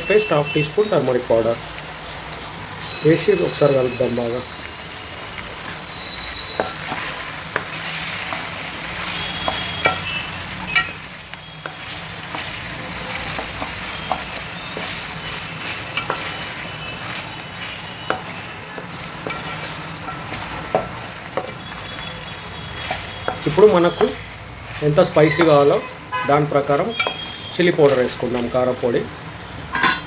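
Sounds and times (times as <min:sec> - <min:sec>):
chicken sizzling in hot oil: 0:00.0 - 0:30.0.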